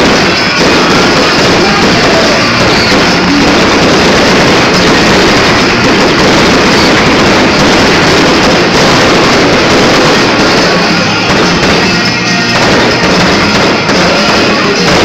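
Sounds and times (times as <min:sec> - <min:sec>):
fireworks crackling and rumbling: 0:00.0 - 0:15.0.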